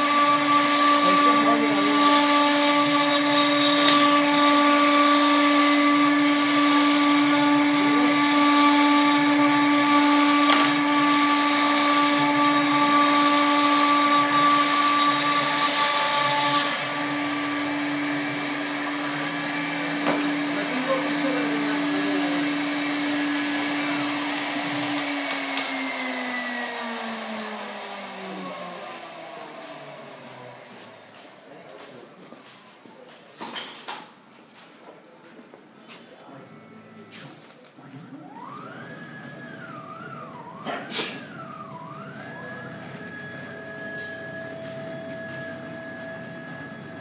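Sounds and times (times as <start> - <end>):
router spindle high whine: 0.0 - 33.0, 36.2 - 47.0.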